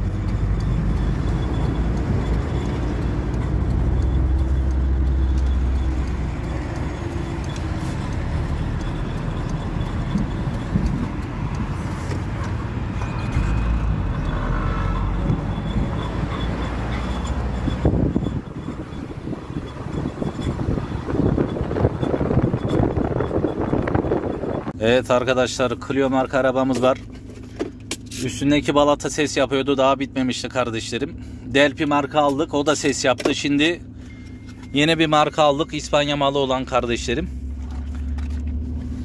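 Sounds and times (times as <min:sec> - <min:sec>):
brake pads squeaking: 0:00.0 - 0:39.0
car road noise: 0:00.0 - 0:39.0.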